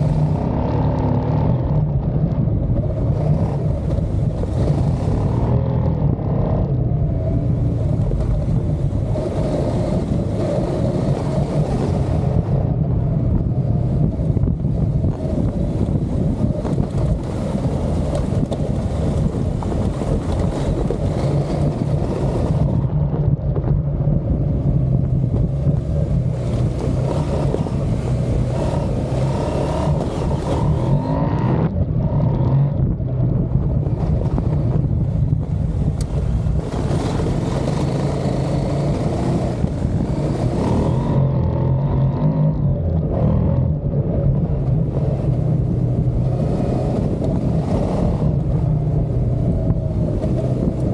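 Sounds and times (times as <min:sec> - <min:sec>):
motorcycle engine running: 0:00.0 - 0:50.9
wind noise on microphone: 0:00.0 - 0:50.9.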